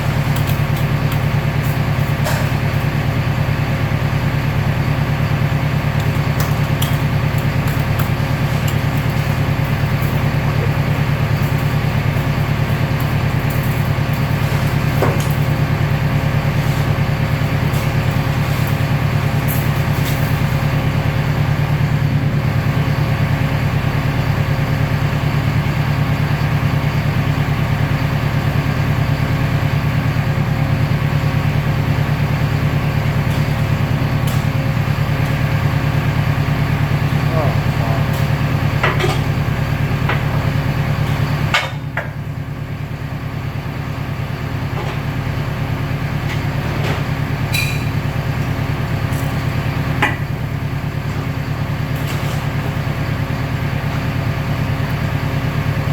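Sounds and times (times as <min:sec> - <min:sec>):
baler machine drone: 0:00.0 - 0:55.9.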